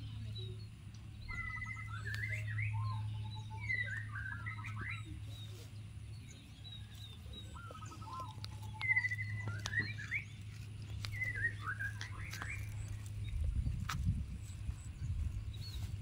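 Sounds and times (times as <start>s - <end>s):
birds singing whistled phrases: 0.0s - 16.0s
steady low hum: 0.0s - 16.0s.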